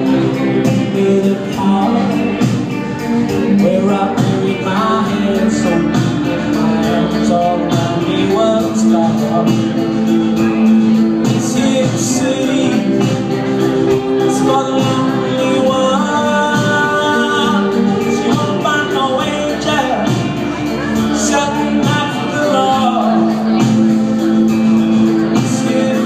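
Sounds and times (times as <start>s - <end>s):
live rock band playing: 0.0s - 26.0s
man singing: 0.0s - 26.0s.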